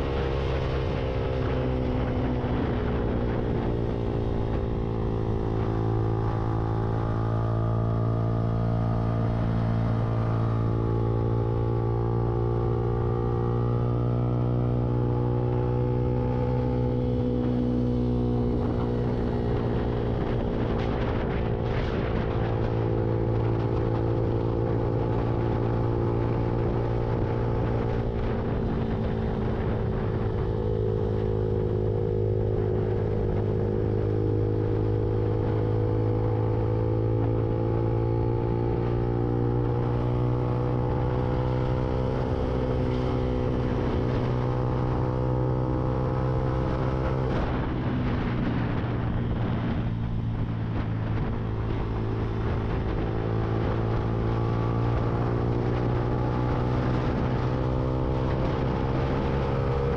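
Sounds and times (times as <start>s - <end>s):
motorcycle engine cruising: 0.0s - 59.9s
road and wind rush: 0.0s - 59.9s.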